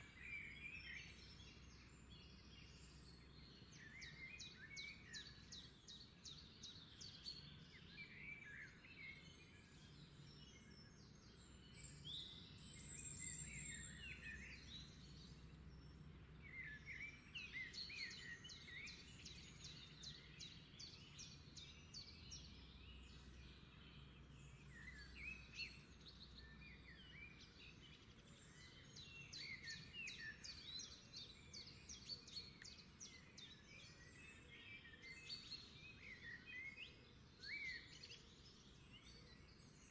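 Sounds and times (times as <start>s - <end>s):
birds chirping and trilling: 0.1s - 39.9s.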